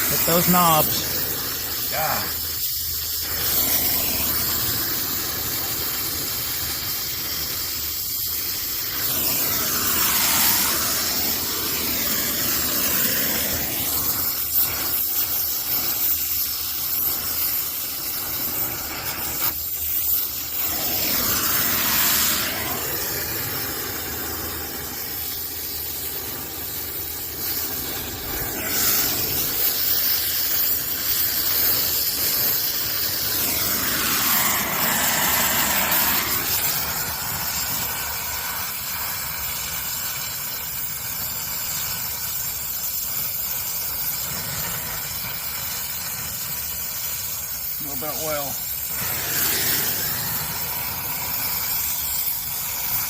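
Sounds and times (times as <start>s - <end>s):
torch flame hissing: 0.0s - 53.0s.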